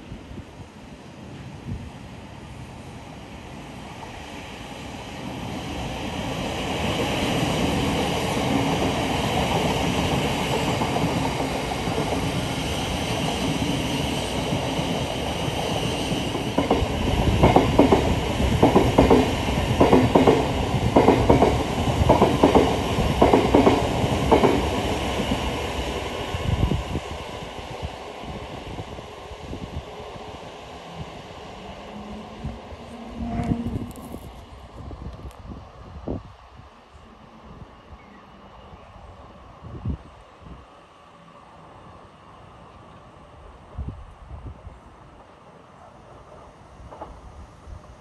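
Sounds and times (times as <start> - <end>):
passing train rumble: 0.0 - 48.0.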